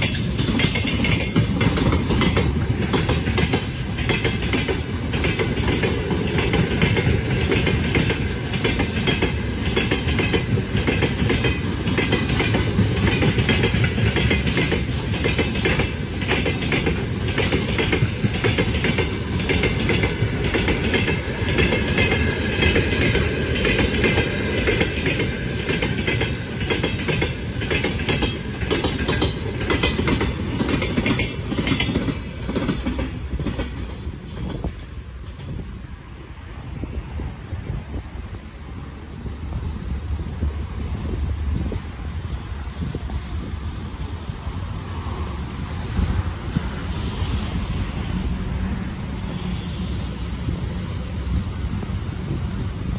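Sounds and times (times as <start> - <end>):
freight train wheels clicking on rails: 0.0 - 52.9.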